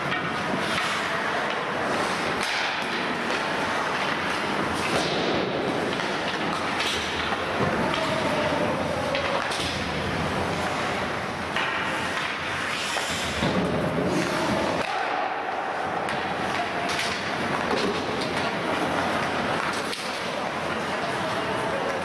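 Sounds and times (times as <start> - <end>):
knocks and clatters of hockey play: 0.0 - 22.0.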